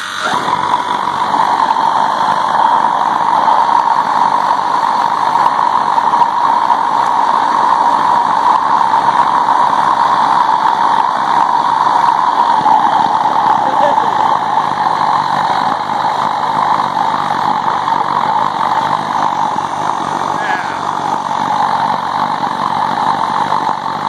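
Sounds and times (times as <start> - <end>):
burner roaring steadily: 0.0 - 24.0
oil burner igniting whoosh: 0.0 - 24.0.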